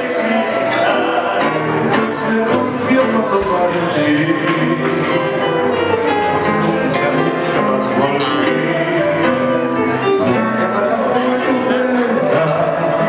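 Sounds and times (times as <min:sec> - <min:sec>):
man singing tango: 0:00.0 - 0:13.0
tango instrumental accompaniment: 0:00.0 - 0:13.0.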